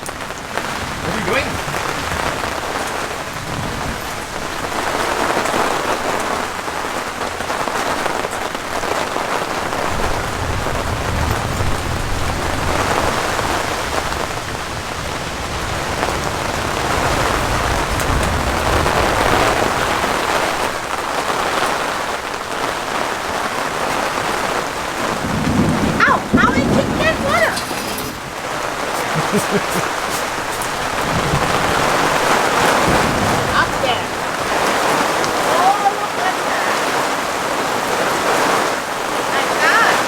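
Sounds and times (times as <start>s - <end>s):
low thunder rumble: 0.0s - 8.0s, 8.6s - 21.1s, 23.7s - 35.6s
heavy rain pouring: 0.0s - 40.0s.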